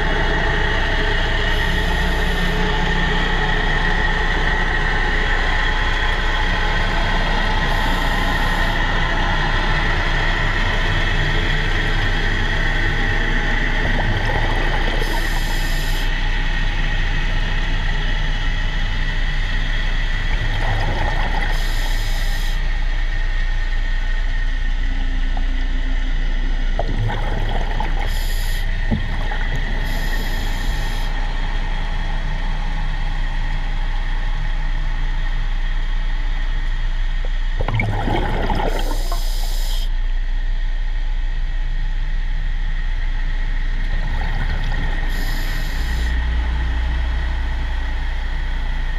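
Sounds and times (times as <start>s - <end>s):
underwater machine hum and whine: 0.0s - 48.9s.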